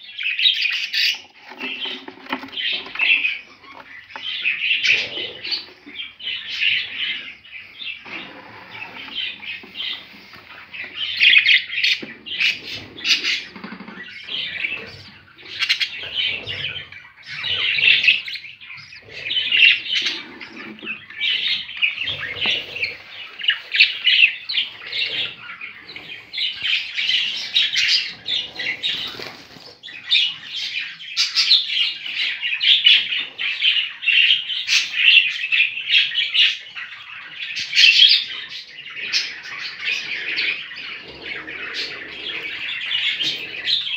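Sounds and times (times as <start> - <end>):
budgerigars chirping: 0.0 - 43.9.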